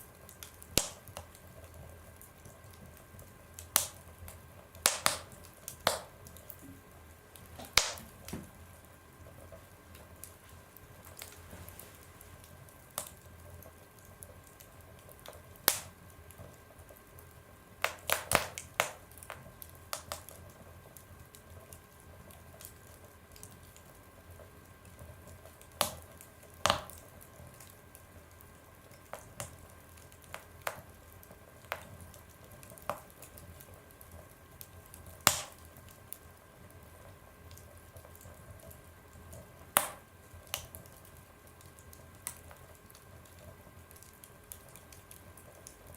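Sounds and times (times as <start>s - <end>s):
faint steady hiss: 0.0s - 45.9s
fire crackling and popping: 0.0s - 45.9s.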